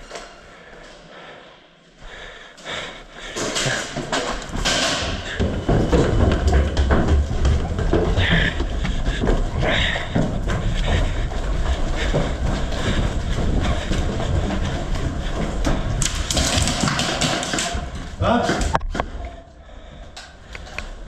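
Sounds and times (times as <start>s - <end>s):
footsteps and gear clatter: 2.0s - 21.0s.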